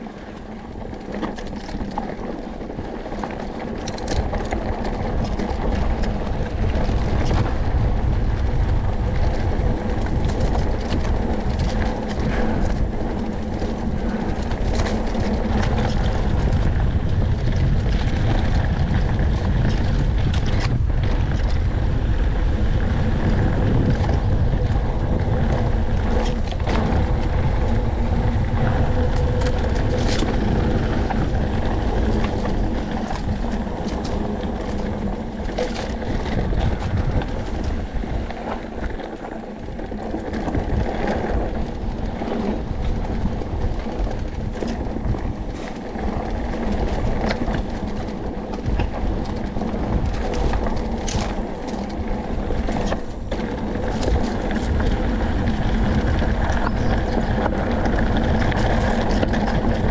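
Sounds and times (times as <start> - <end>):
bike tyre noise on dirt: 0.0 - 59.9
stones and bike rattling: 0.0 - 59.9
wind on microphone: 0.0 - 59.9.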